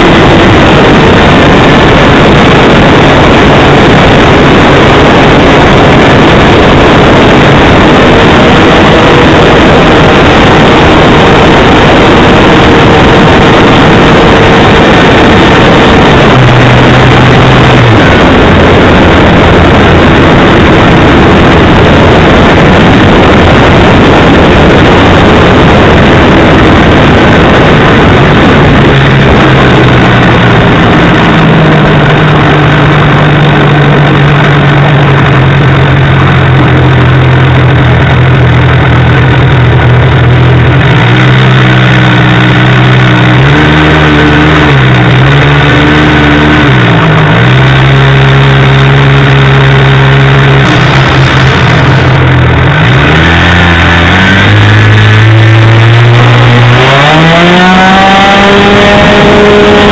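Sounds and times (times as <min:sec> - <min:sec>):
model airplane engine: 0:00.0 - 0:59.9
wind rush: 0:00.0 - 0:59.9.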